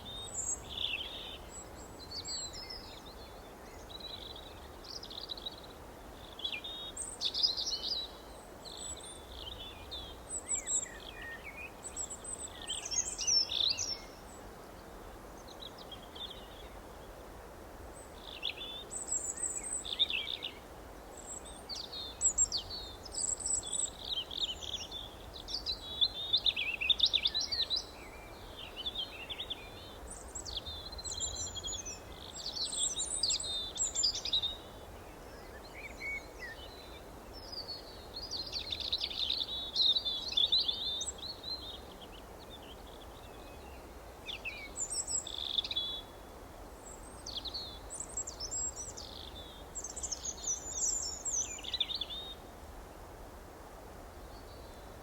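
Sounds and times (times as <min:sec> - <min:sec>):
faint background hiss: 0:00.0 - 0:55.0.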